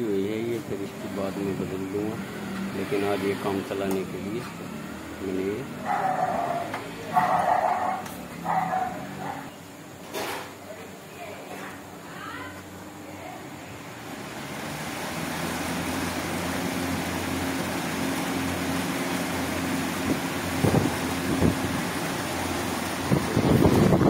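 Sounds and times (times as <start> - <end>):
exhaust fan humming with air rush: 0.0 - 24.0.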